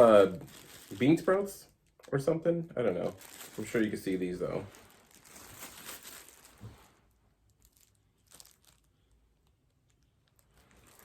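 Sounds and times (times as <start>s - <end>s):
plastic packaging crinkling: 0.0s - 2.3s, 2.9s - 11.0s.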